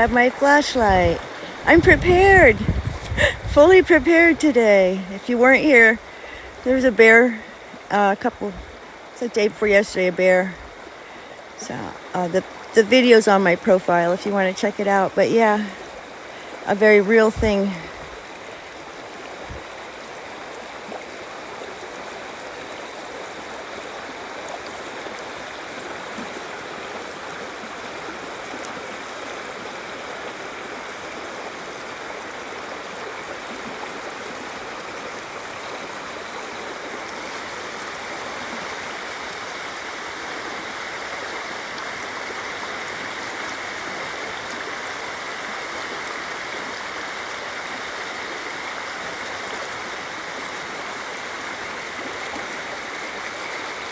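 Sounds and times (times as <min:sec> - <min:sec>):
river water rushing over rocks: 0:00.0 - 0:53.9.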